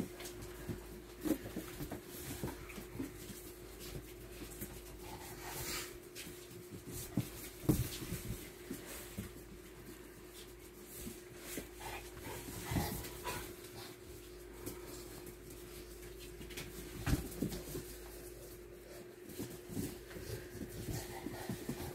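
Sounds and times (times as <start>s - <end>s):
bodies and paws thumping floor: 0.0s - 21.9s.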